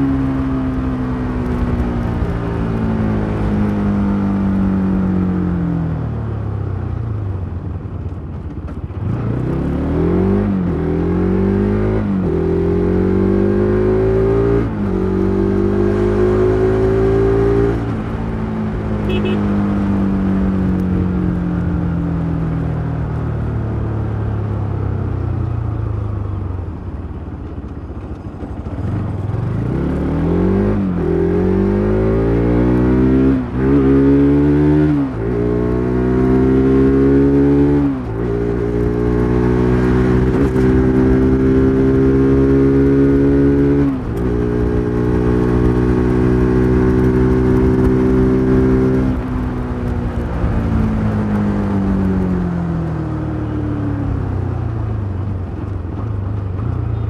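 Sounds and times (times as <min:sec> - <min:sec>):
motorcycle engine revving: 0:08.4 - 0:26.2, 0:28.0 - 0:57.0.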